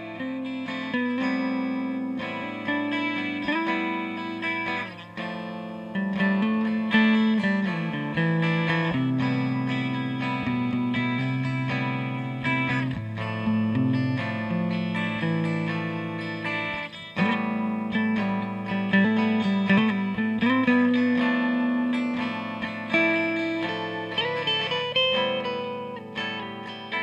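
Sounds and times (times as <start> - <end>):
guitar picking notes and chords: 0.0 - 27.0.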